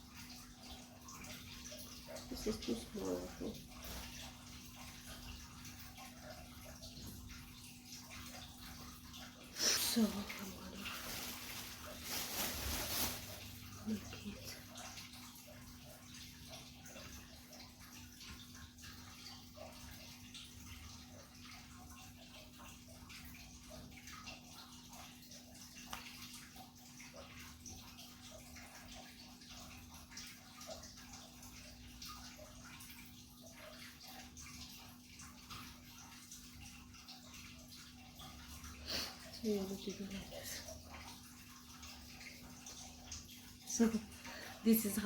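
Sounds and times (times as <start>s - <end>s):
light drips: 0.0s - 45.0s
rain patter: 0.0s - 45.0s.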